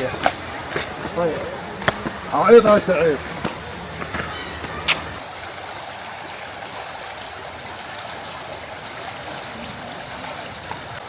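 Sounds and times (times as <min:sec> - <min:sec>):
mountain stream flowing: 0:00.0 - 0:11.0.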